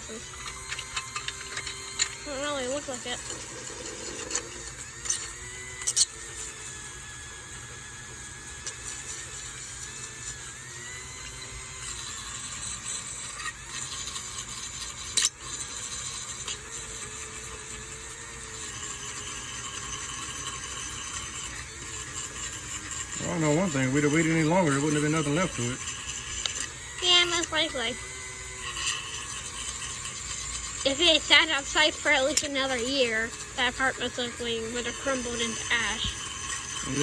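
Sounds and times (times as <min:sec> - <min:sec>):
small power tool whine: 0:00.0 - 0:37.0.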